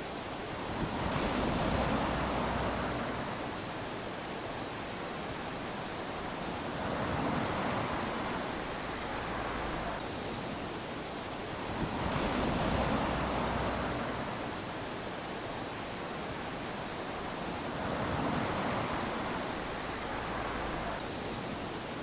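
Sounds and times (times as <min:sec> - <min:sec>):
small waves lapping on sand: 0:00.0 - 0:22.0.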